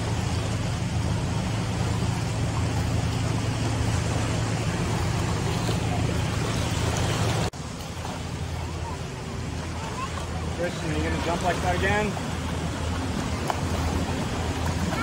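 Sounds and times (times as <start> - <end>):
small waves lapping: 0.0 - 15.0.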